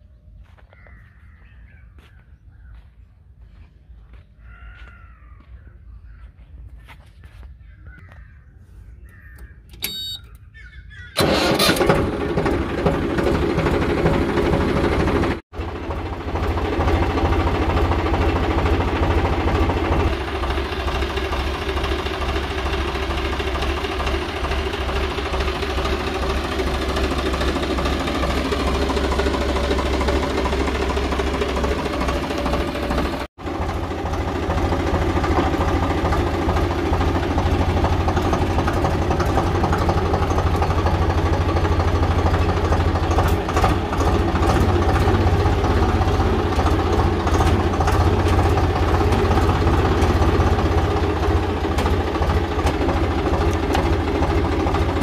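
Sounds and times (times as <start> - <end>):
tractor diesel engine: 9.0 - 55.0.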